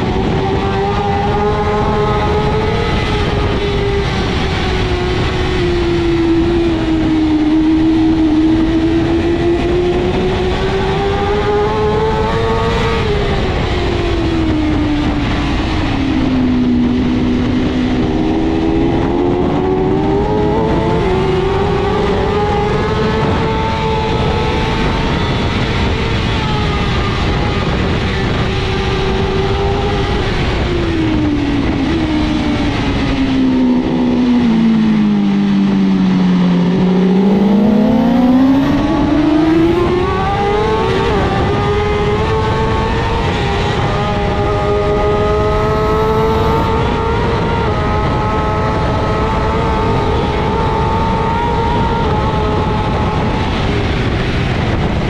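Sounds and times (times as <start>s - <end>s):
motorcycle engine revving: 0.0s - 55.0s
wind rush: 0.0s - 55.0s.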